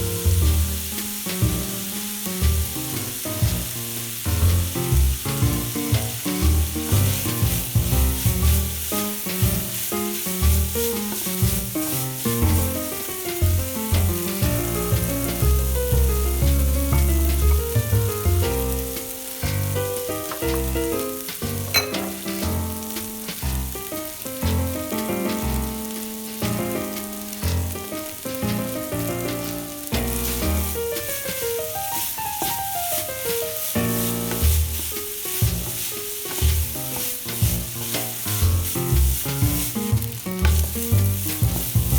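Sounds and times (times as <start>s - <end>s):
food sizzling in a frying pan: 0.0s - 41.9s.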